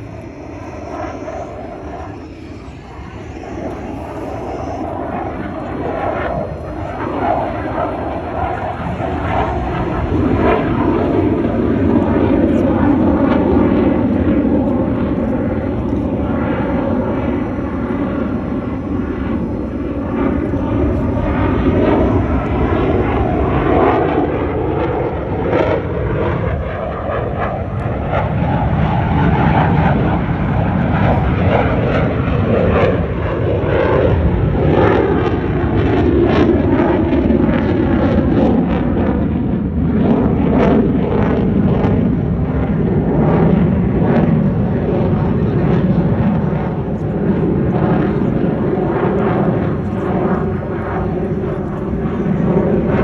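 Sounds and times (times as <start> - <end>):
jet engine roar: 0.0 - 53.0.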